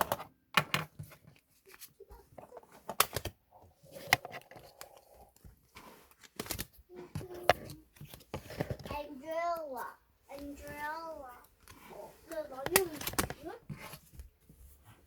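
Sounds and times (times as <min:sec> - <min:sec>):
plastic and paper rustling: 0:01.0 - 0:15.0.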